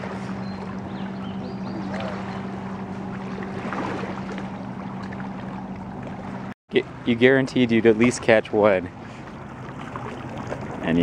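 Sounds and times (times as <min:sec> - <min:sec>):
steady low hum: 0:00.0 - 0:11.0
water noise: 0:00.0 - 0:11.0
wind: 0:00.0 - 0:11.0.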